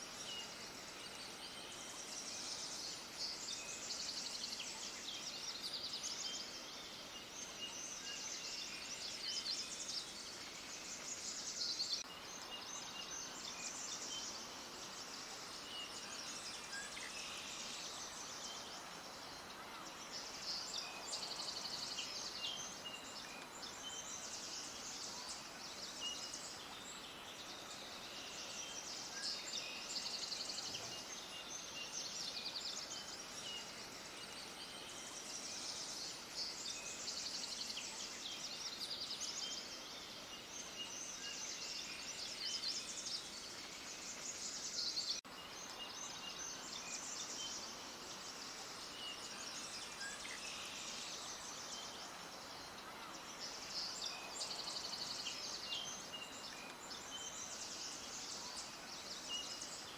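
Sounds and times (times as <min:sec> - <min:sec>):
faint hiss: 0:00.0 - 0:59.9
small birds chirping: 0:00.0 - 0:59.9.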